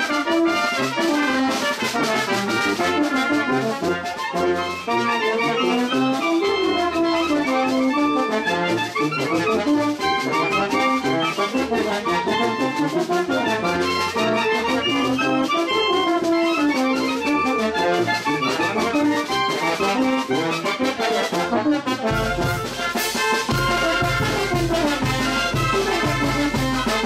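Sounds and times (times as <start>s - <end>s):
clarinets and brass melody: 0.0s - 27.0s
tuba bass line: 0.4s - 27.0s.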